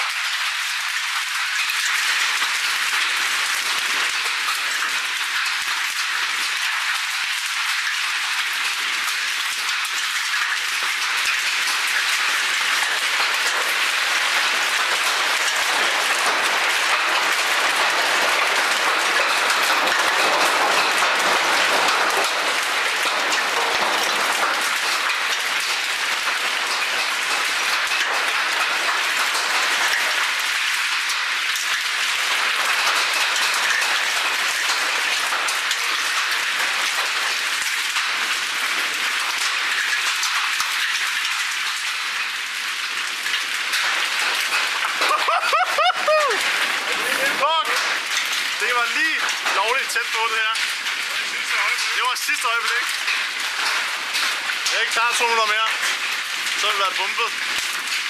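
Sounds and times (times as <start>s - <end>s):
hail and heavy rain clattering: 0.0s - 58.0s.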